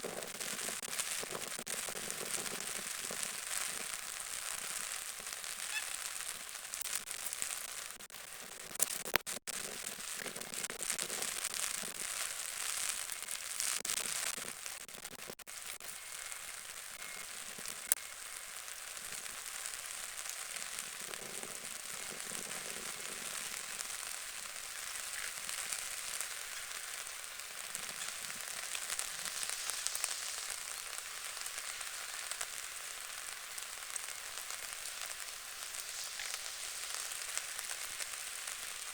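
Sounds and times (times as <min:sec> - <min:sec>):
rain pattering on water: 0:00.0 - 0:38.9.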